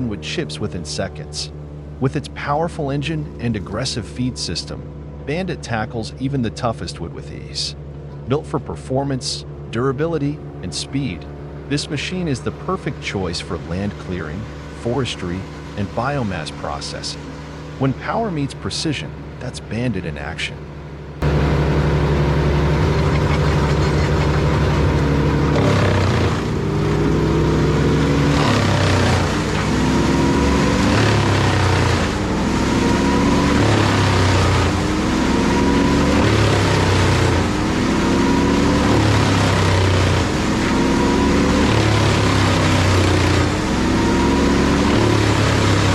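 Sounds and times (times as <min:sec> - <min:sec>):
wood chipper diesel engine: 0:00.0 - 0:45.9.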